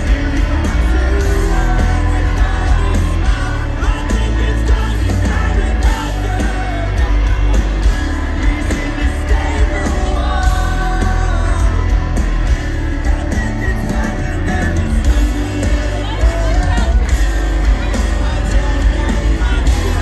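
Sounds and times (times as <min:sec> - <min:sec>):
live rock band: 0:00.0 - 0:20.0
man singing: 0:00.0 - 0:20.0.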